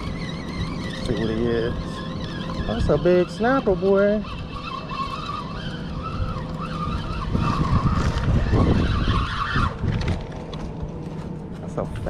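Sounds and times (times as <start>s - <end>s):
fishing reel whining: 0.0s - 11.2s
wind rumble on microphone: 0.0s - 12.0s.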